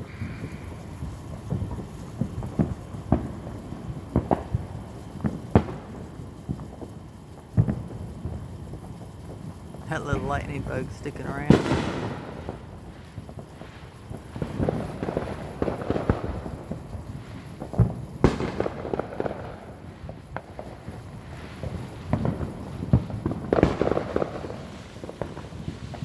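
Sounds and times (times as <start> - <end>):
fireworks popping and crackling: 0.3 - 26.0.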